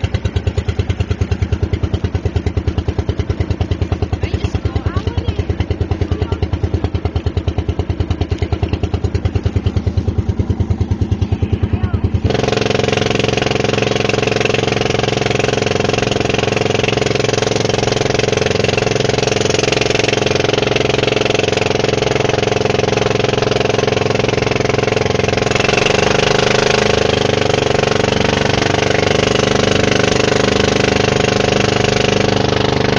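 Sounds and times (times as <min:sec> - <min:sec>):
boat engine running: 0:00.0 - 0:32.9.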